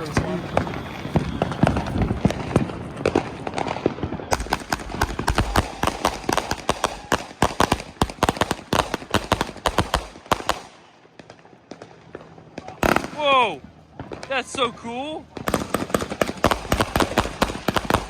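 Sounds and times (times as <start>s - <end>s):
fireworks popping and crackling: 0.0s - 18.0s.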